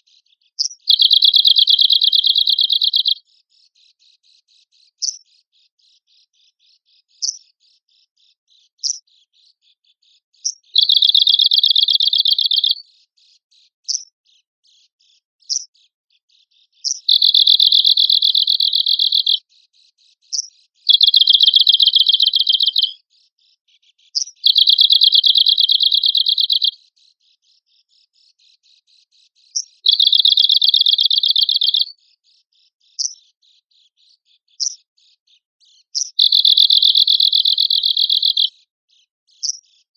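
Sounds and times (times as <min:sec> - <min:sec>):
warbler singing dry trills: 0:00.0 - 0:39.9.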